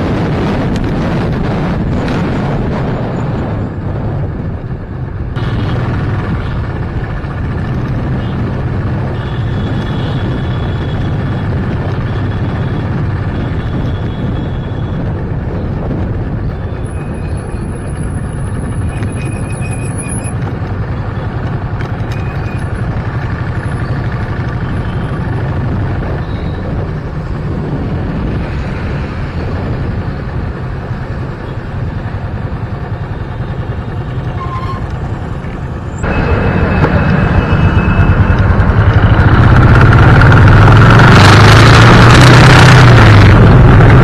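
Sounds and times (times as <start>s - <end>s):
wind buffeting microphone: 0.0s - 19.4s, 20.3s - 44.0s
road and traffic noise: 0.0s - 44.0s.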